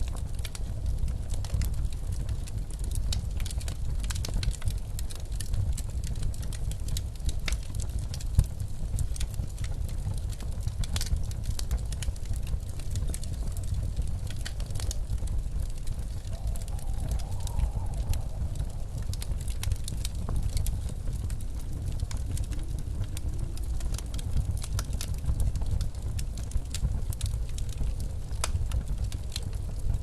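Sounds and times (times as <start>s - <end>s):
low rumble of blizzard wind: 0.0s - 30.0s
wood fire crackling and popping: 0.0s - 30.0s.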